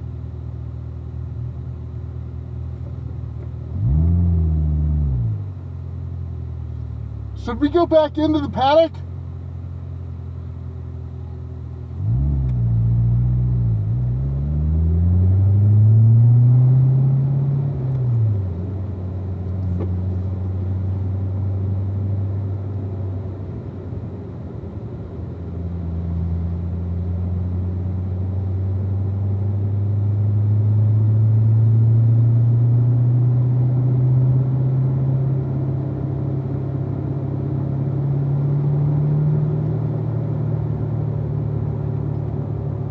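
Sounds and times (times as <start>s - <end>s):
car engine revving: 3.6s - 8.6s, 10.2s - 23.4s, 25.5s - 42.9s.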